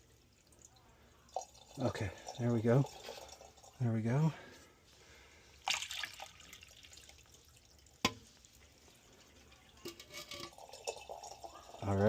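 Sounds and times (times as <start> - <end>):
water trickling and dripping: 0.0 - 4.4, 5.6 - 12.0.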